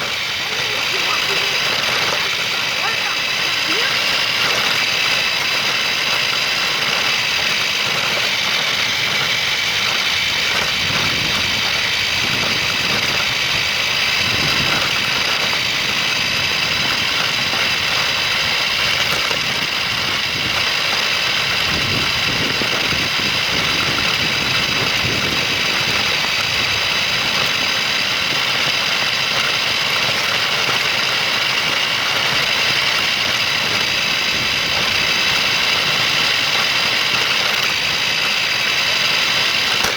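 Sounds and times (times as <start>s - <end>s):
rough rumble: 0.0s - 39.9s
toy car motor whining: 0.0s - 39.9s.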